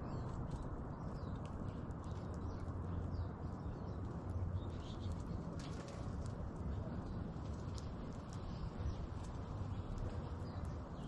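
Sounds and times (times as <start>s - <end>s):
small birds chirping: 0.0s - 11.0s
steady outdoor rumble: 0.0s - 11.0s.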